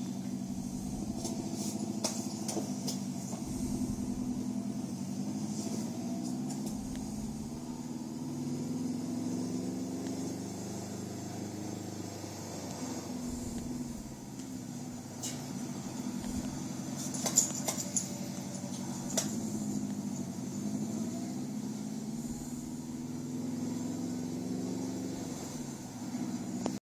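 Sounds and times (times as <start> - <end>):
car engine rumbling: 0.0 - 26.8.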